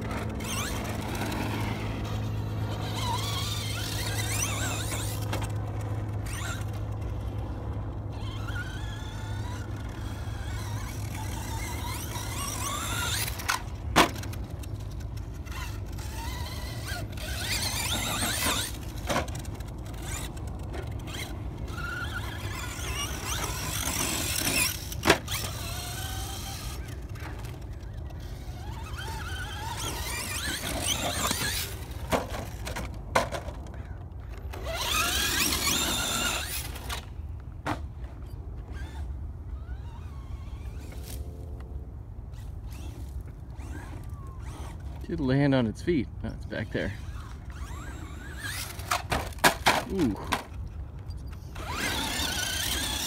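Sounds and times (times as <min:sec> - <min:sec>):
electric motor whining: 0:00.0 - 0:37.2, 0:46.7 - 0:53.0.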